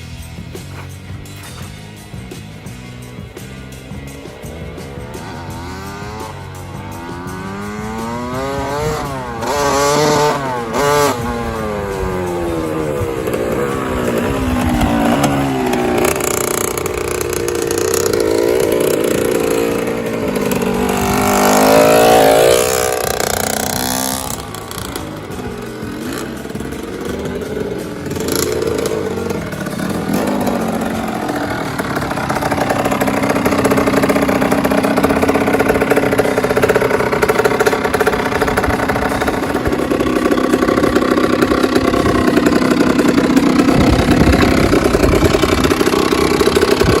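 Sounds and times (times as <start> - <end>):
two-stroke motorcycle engine revving: 0.0 - 47.0.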